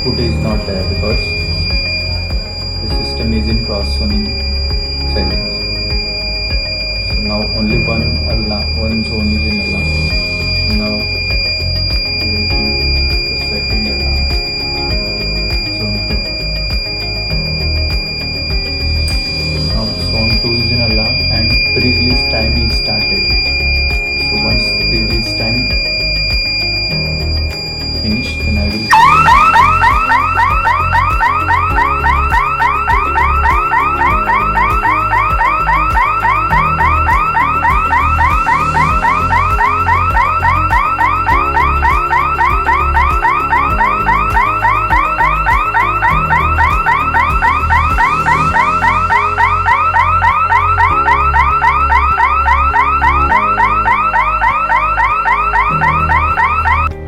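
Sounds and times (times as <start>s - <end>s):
electronic alarm sweeping tone: 0.0s - 57.0s.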